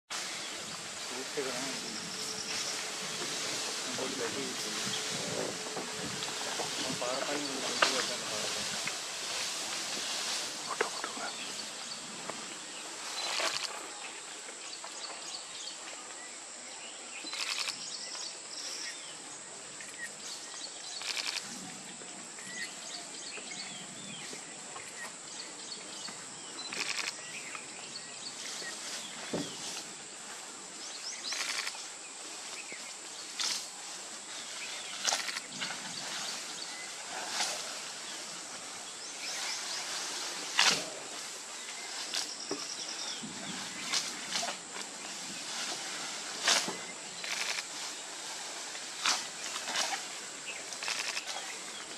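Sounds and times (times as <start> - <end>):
steady high hiss: 0.1 - 51.9.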